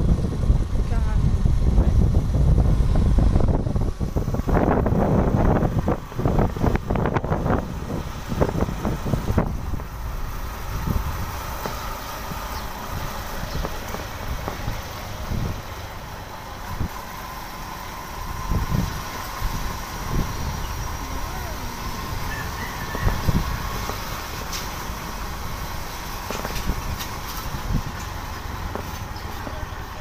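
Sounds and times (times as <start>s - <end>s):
motorcycle road noise: 0.0s - 30.0s
truck passing: 0.0s - 30.0s
wind buffeting microphone: 0.0s - 30.0s.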